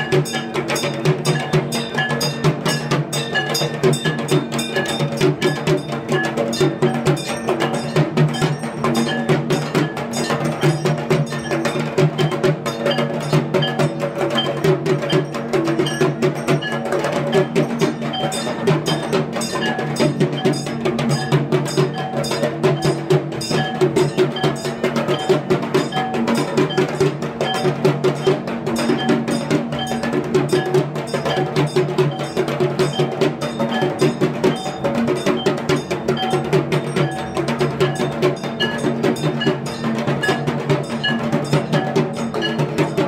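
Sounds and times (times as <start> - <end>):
fast continuous drumming: 0.0 - 43.0.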